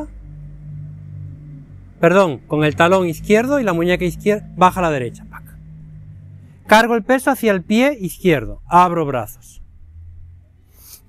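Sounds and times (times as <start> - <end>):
faint rumble: 0.0 - 10.8.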